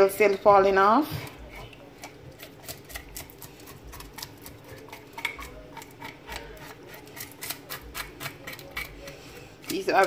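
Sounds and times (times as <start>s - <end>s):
knife scraping fish scales: 1.5s - 10.0s.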